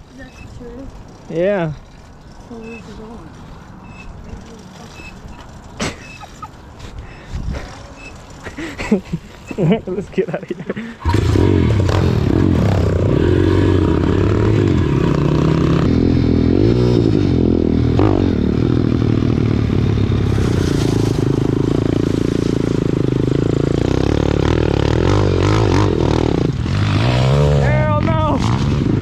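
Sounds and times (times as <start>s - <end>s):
pit bike engines revving: 0.0s - 29.0s.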